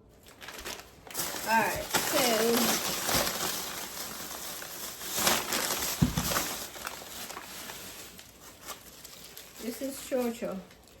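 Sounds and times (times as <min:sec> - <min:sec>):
grocery bags rustling: 0:00.0 - 0:11.0.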